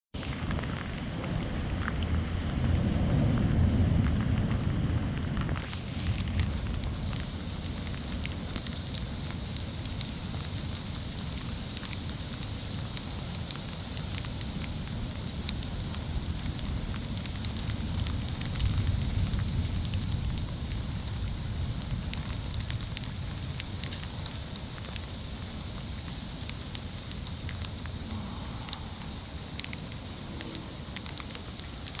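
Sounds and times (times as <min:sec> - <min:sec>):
low thunder rumble: 0:00.2 - 0:10.9, 0:14.7 - 0:32.0
steady rain: 0:00.2 - 0:32.0.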